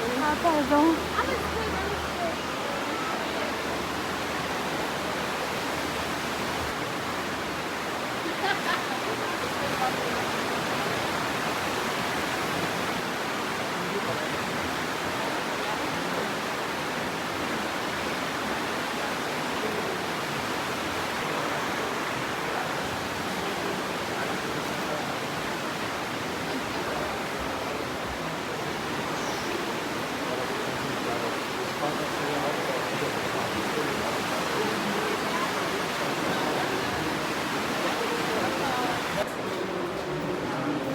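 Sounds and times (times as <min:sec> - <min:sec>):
river roaring through gorge: 0:00.0 - 0:40.9.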